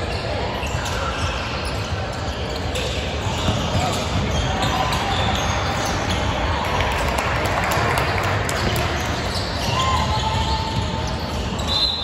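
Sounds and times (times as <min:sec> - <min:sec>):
shoe squeak: 0:00.0 - 0:06.4, 0:08.6 - 0:12.0.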